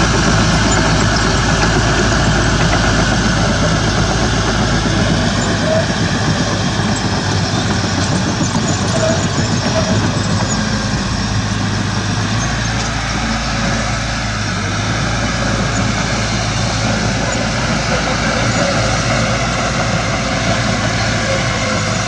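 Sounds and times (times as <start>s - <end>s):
heavy diesel machinery engine: 0.0s - 22.0s.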